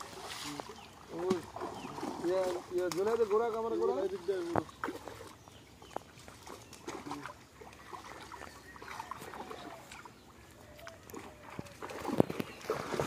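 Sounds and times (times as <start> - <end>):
pond water splashing and dripping: 0.0 - 13.0.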